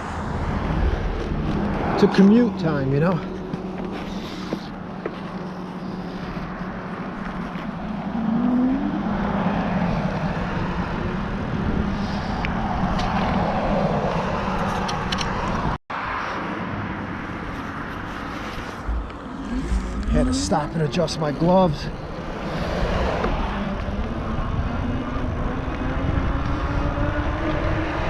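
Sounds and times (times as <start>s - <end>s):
cars passing on road: 0.0s - 28.0s.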